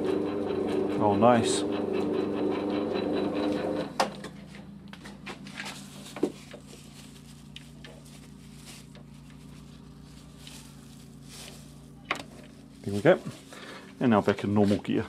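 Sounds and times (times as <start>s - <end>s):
lathe running: 0.0s - 15.0s.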